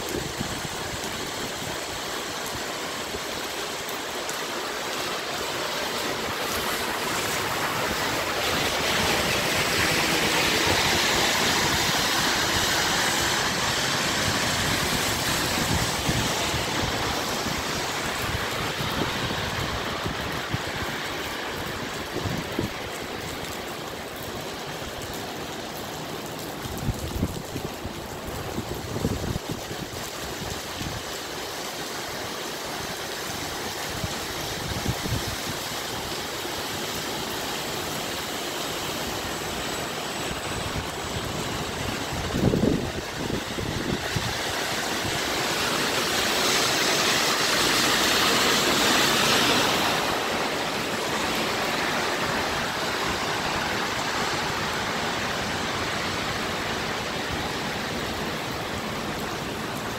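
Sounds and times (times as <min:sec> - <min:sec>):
bus traffic on wet road: 0:00.0 - 0:59.9
rain hiss: 0:00.0 - 0:59.9.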